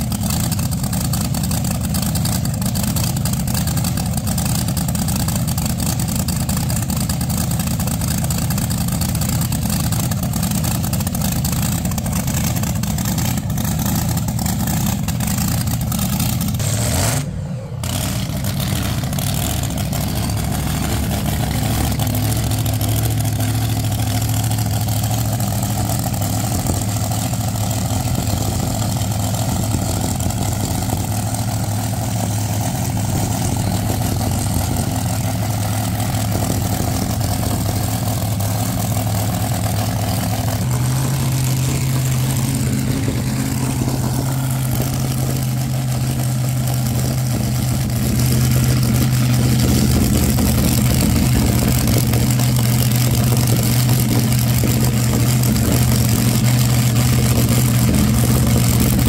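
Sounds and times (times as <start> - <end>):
car engines idling and revving: 0.0 - 59.0.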